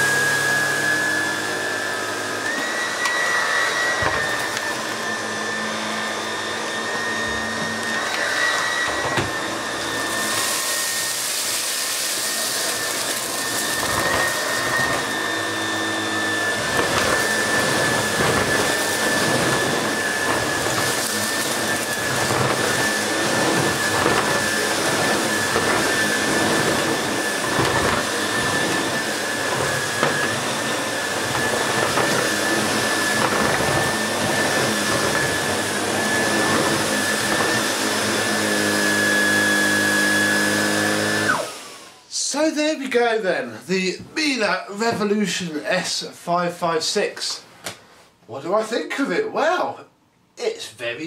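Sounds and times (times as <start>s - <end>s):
vacuum cleaner motor whine: 0.0s - 42.5s.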